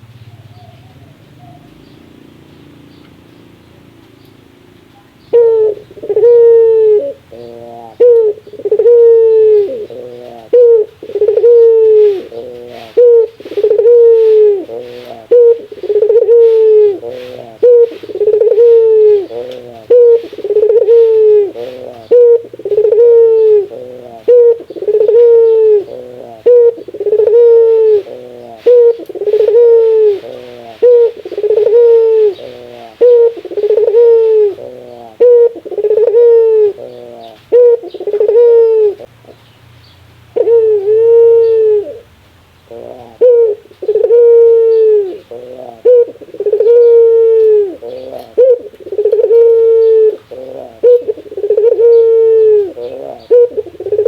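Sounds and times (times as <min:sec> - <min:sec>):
dove cooing: 0:04.9 - 0:39.4, 0:40.3 - 0:54.0.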